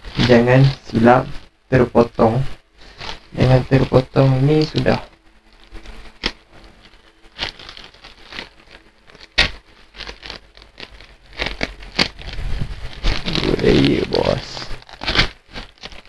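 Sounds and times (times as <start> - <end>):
plastic bag crinkling and rustling: 0.0 - 16.0.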